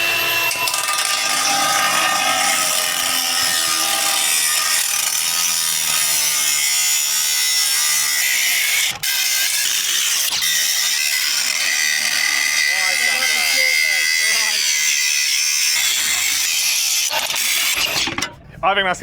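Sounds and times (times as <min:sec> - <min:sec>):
angle grinder cutting metal: 0:00.0 - 0:18.3.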